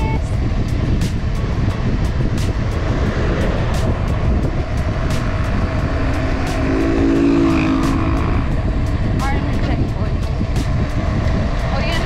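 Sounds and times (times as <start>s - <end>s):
low hum: 0.0s - 11.7s
wind rushing over microphone: 0.0s - 12.0s.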